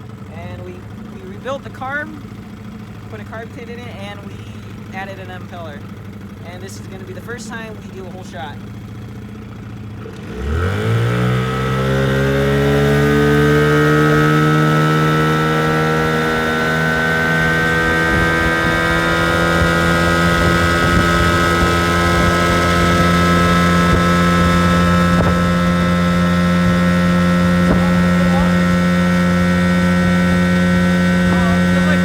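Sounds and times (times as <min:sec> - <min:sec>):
outboard motor at full throttle: 0:00.0 - 0:32.0.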